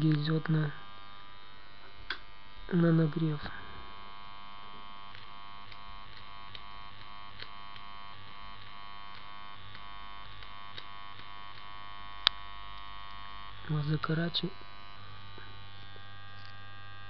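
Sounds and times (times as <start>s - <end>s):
transformer humming with buzzy edge: 0.0s - 17.0s.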